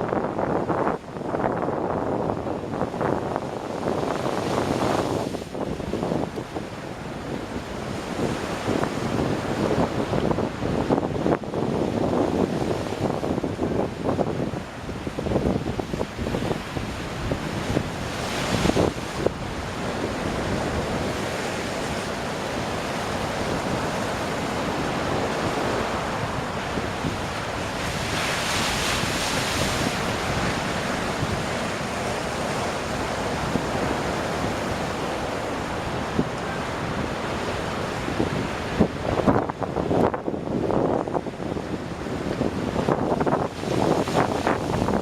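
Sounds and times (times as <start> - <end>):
wind buffeting microphone: 0.0 - 45.0
waves crashing on rocks: 0.1 - 45.0.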